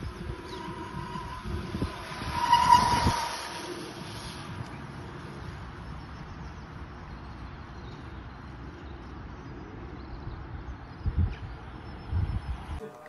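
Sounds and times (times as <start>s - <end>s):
wind rumbling on microphone: 0.0s - 12.8s.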